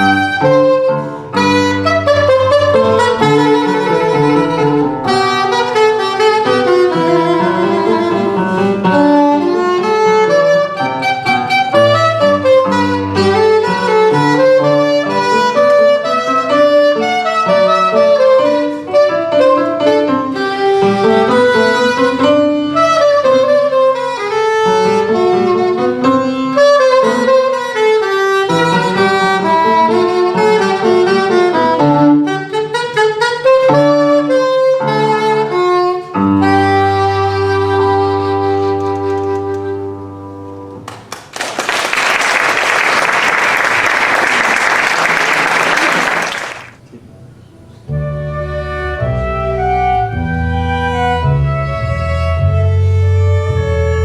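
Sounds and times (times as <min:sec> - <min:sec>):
baroque instrumental ensemble: 0:00.0 - 0:40.8, 0:47.9 - 0:54.0.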